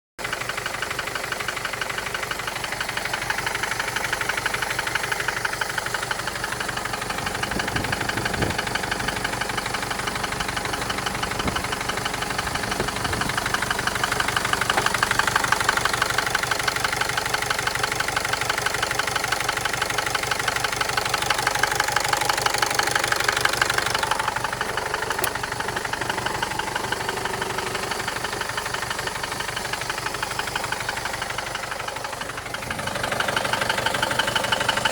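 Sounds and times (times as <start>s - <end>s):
diesel engine idling: 0.2s - 34.9s
rapid engine knocking: 0.2s - 34.9s.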